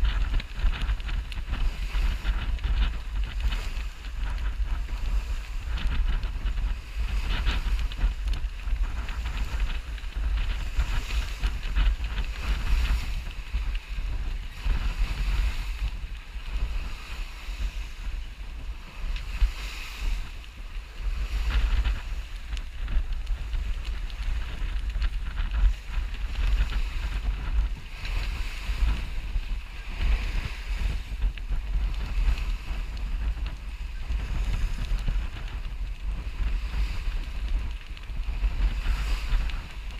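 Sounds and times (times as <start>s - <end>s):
water rushing along hull: 0.0s - 39.9s
wind buffeting microphone: 0.0s - 39.9s.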